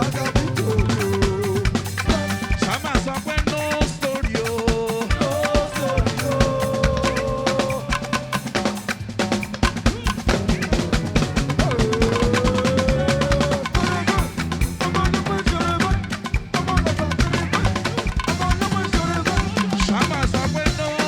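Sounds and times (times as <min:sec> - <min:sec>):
drum kit beat: 0:00.0 - 0:21.0
gospel band playing: 0:00.0 - 0:21.0.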